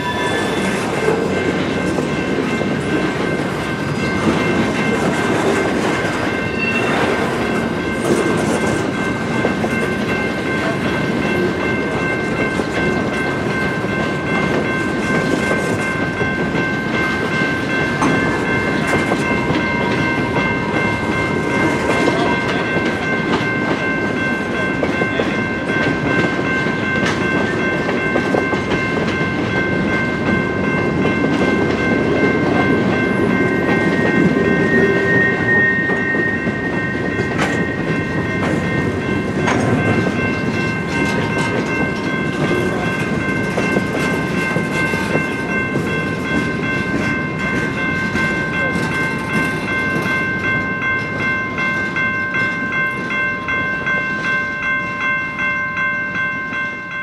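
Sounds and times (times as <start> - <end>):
steady high ringing tones: 0.0 - 57.0
train wheels clacking and rumbling: 0.0 - 57.0.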